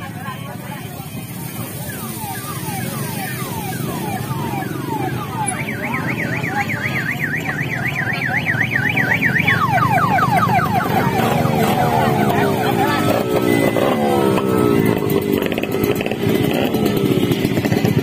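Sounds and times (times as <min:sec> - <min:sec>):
vehicle engine running: 0:00.0 - 0:18.0
electronic siren: 0:01.5 - 0:17.4.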